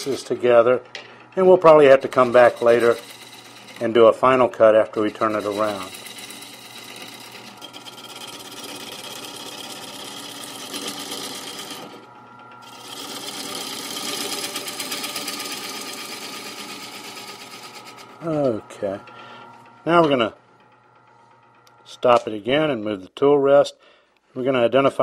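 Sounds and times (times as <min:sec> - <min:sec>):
lathe humming: 0:00.0 - 0:22.2.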